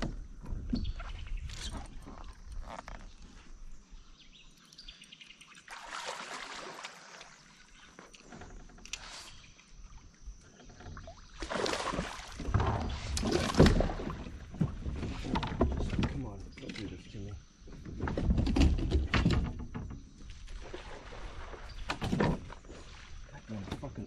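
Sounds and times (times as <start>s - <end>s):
kayak handling noise: 0.0s - 5.5s, 6.8s - 24.0s
water sloshing: 4.5s - 24.0s.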